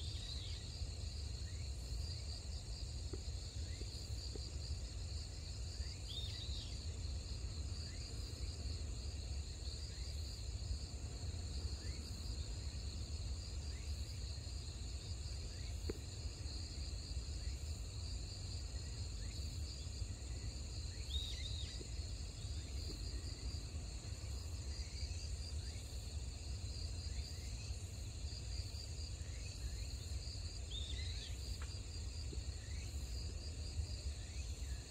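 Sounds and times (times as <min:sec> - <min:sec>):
insect chorus: 0:00.0 - 0:34.9.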